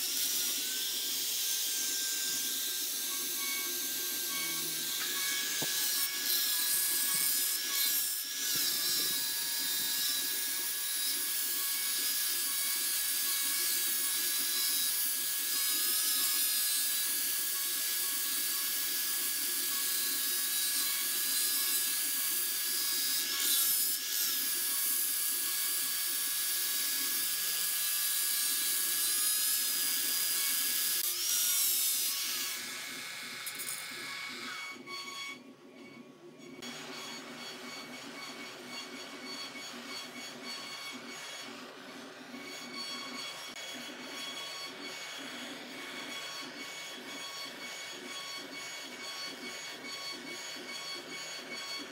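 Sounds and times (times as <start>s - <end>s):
angle grinder whining: 0.0s - 35.8s, 36.4s - 51.9s.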